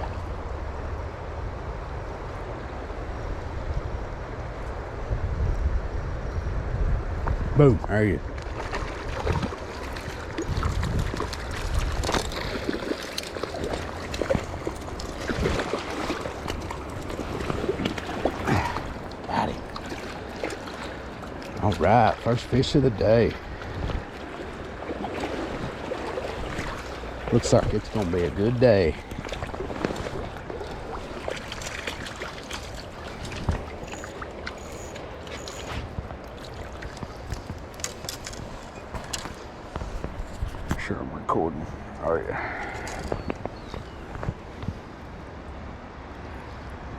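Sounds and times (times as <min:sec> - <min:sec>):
rushing river water: 0:07.5 - 0:46.9.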